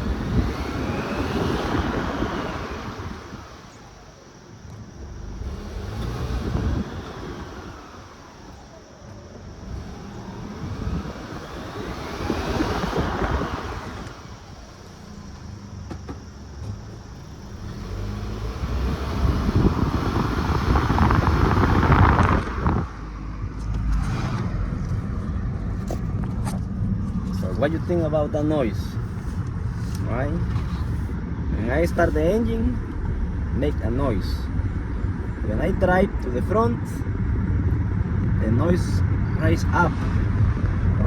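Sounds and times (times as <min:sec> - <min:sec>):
car engine accelerating: 0:00.0 - 0:41.0
drivetrain whine: 0:00.0 - 0:41.0.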